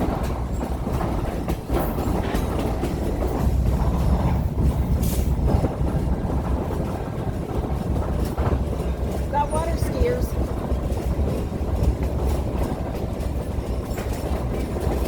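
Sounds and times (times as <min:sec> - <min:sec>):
train low rumble: 0:00.0 - 0:15.0
wheels clattering over rails: 0:00.0 - 0:15.0.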